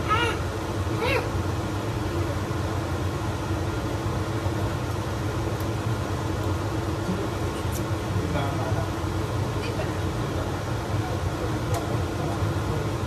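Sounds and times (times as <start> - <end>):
fan humming and hissing: 0.0 - 13.0.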